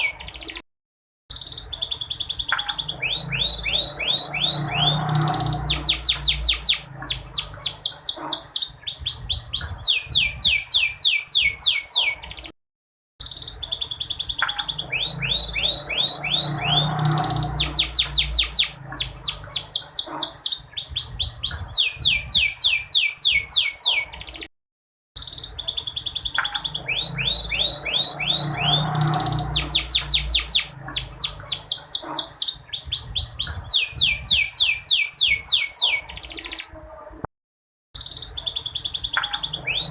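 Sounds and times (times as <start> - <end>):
canary singing trills: 0.0 - 0.6, 1.3 - 12.5, 13.2 - 24.5, 25.2 - 36.8, 38.0 - 39.9.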